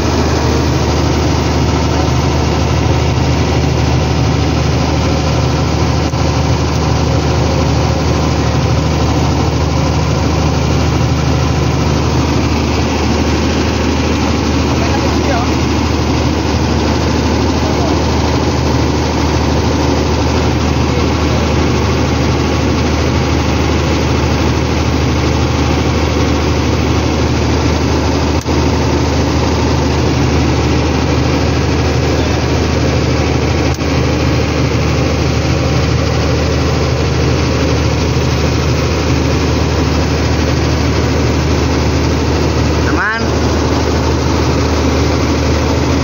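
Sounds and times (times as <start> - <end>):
generator engine running: 0.0 - 46.0.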